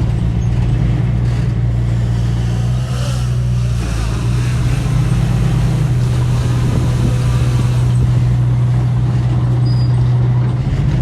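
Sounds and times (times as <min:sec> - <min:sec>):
heavy machine diesel engine droning: 0:00.0 - 0:11.0.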